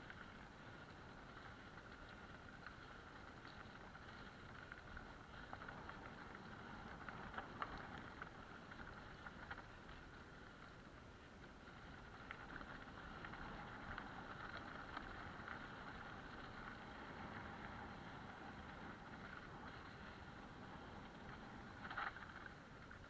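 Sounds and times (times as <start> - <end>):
bike tyres rolling on gravel: 0.0 - 23.0.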